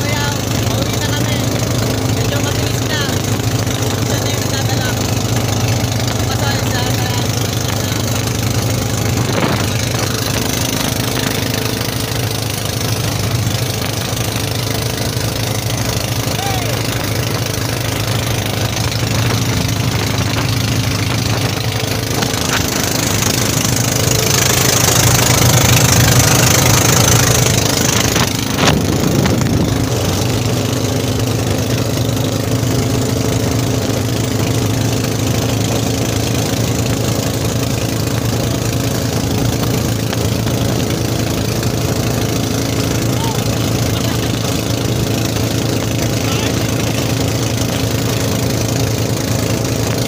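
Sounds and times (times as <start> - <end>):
boat engine running: 0.0 - 50.0
rush of wind and water: 0.0 - 50.0.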